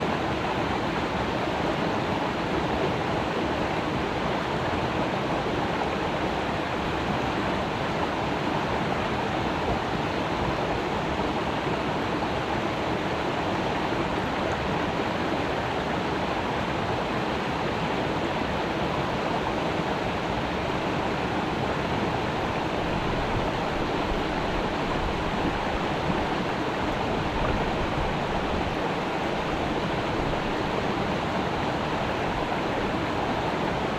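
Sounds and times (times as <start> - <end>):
creek water running over rocks: 0.0 - 33.9.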